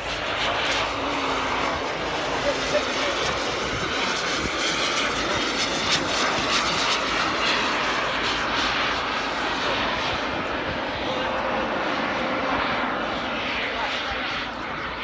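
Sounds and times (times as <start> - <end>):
model aircraft engine drone: 0.0 - 15.0.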